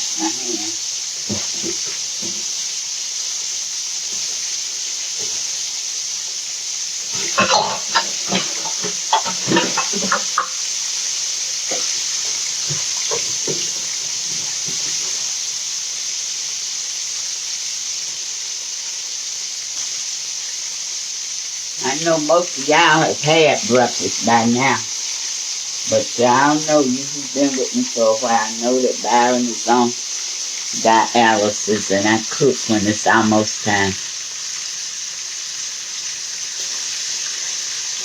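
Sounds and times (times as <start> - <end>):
chicken frying in oil: 0.0 - 38.0
tap water running: 0.0 - 38.0.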